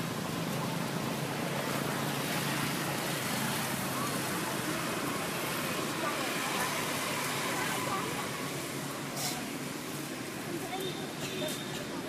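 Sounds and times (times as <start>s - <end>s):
distant motor traffic: 0.0s - 12.0s
wind: 0.0s - 12.0s.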